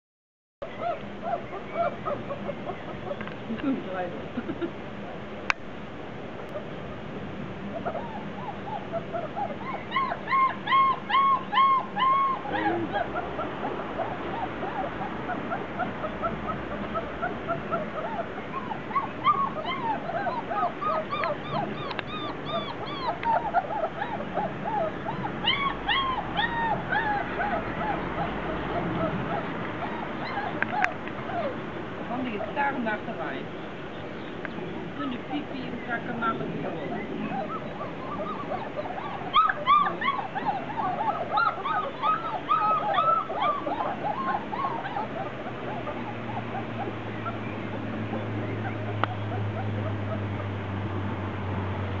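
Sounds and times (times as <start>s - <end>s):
puppies whining and squeaking: 0.6s - 3.3s, 7.7s - 33.2s, 35.1s - 51.0s.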